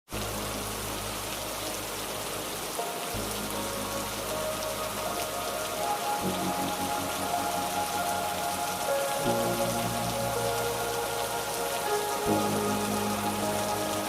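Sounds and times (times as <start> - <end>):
heavy rain falling: 0.1 - 14.0.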